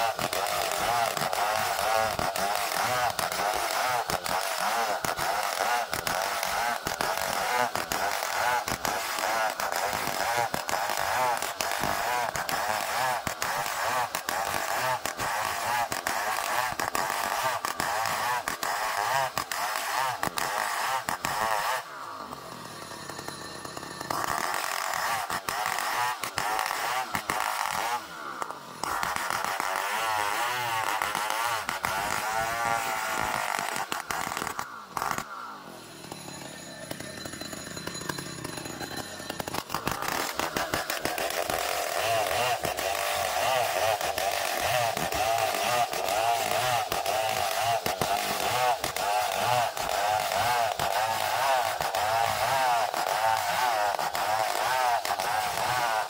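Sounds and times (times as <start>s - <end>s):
motorised saw engine cutting wood: 0.0s - 56.0s.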